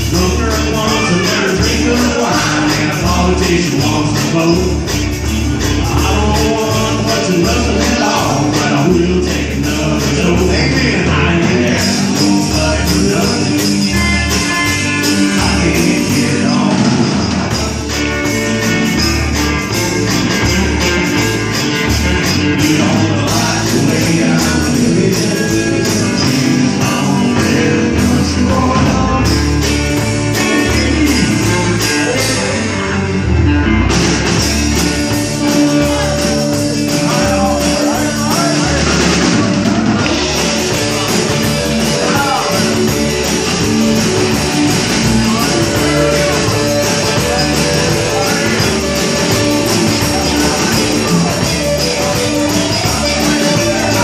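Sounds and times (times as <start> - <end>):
person singing: 0.0 - 33.4, 34.4 - 54.0
loud rock band music: 0.0 - 54.0
pulsing bass line: 0.0 - 54.0.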